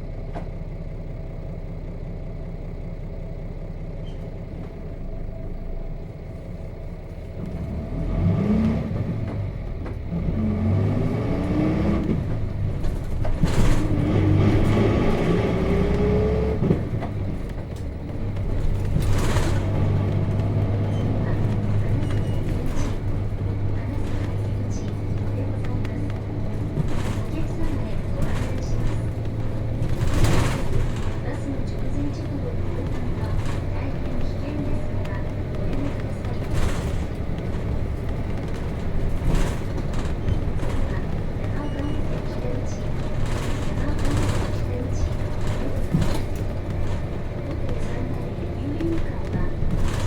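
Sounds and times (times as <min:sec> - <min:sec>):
bus diesel engine: 0:00.0 - 0:50.0.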